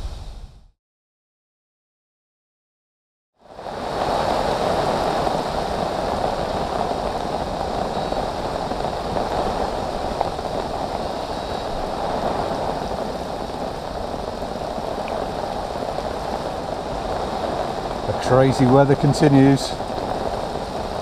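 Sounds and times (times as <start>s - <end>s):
rain hissing on lake surface: 3.4s - 21.0s
rain on fabric: 3.4s - 21.0s.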